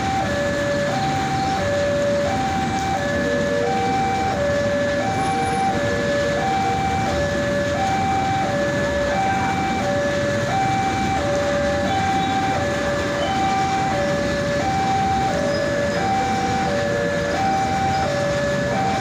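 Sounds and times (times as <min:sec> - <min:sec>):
two-tone crossing alarm: 0:00.0 - 0:19.0.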